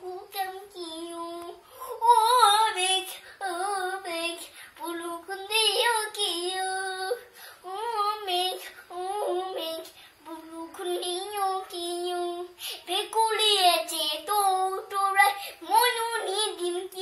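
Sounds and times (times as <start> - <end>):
girl reciting sing-song chant: 0.0 - 17.0.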